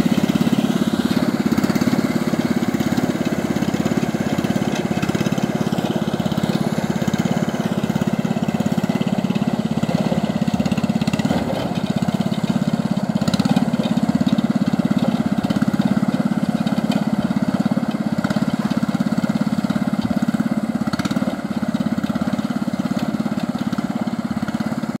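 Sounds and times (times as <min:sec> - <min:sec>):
diesel engine running steadily: 0:00.0 - 0:25.0.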